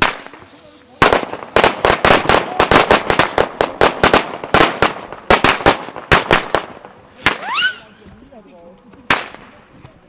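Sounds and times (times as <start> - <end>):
firecrackers banging: 0.0 - 8.3, 9.0 - 9.8.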